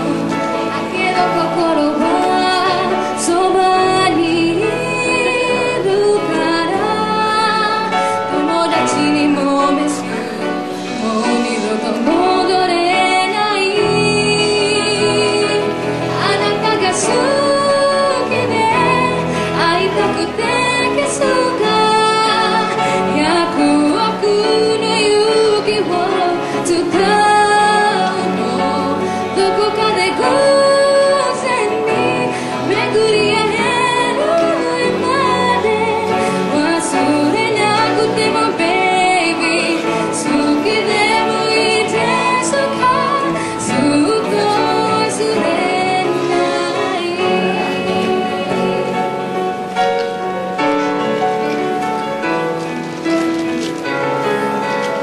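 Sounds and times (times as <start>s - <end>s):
woman singing pop ballad: 0.0s - 49.3s
acoustic guitars: 0.0s - 55.0s
piano: 0.0s - 55.0s.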